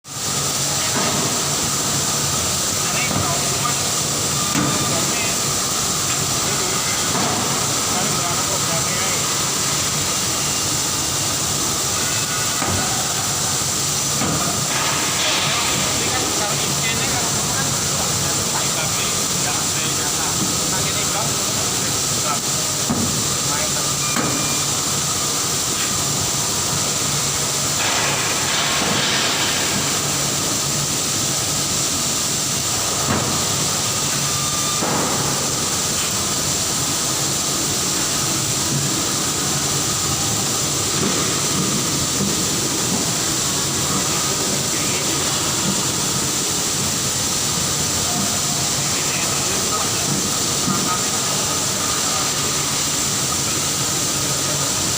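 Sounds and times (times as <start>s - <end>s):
spot-welding machine hiss: 0.1s - 54.9s.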